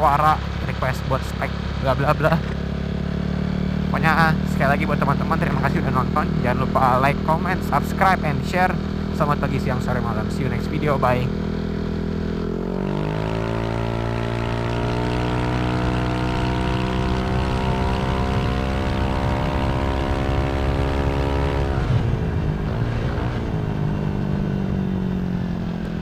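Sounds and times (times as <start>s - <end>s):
scooter engine running: 0.0s - 26.0s.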